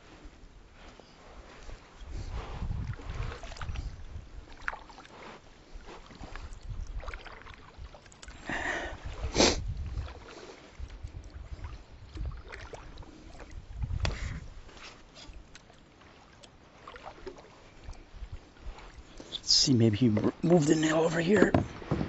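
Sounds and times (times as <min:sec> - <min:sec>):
paddle pulling through water: 0:00.0 - 0:22.0.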